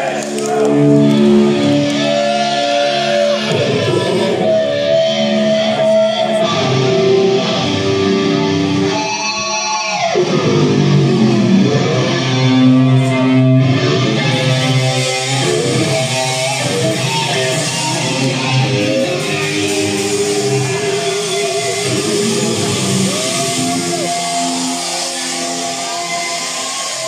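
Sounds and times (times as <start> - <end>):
heavy metal band playing live: 0.0 - 27.0
singer's voice: 0.0 - 27.0.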